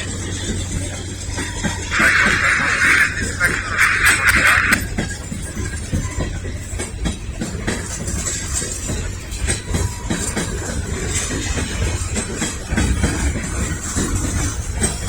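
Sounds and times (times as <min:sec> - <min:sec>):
freight train rumbling: 0:00.0 - 0:15.0
wheels clicking and clanking on rail: 0:00.0 - 0:15.0.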